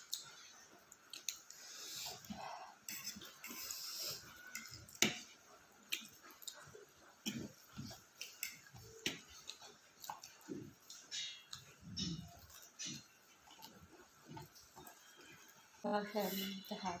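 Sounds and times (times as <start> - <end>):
chewing: 0.0 - 15.8.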